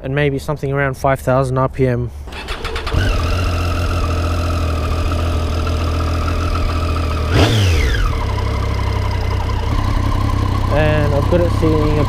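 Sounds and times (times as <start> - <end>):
engine revving: 2.3 - 12.0
motorcycle engine idling: 2.3 - 12.0.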